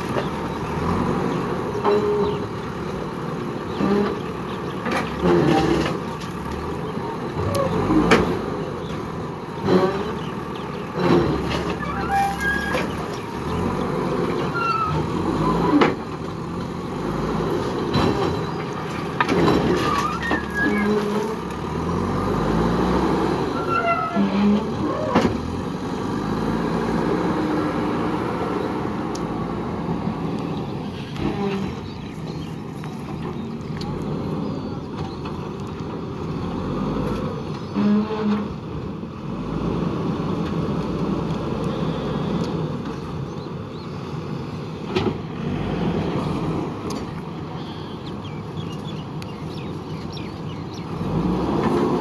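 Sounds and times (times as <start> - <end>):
backhoe diesel engine working: 0.0 - 52.0.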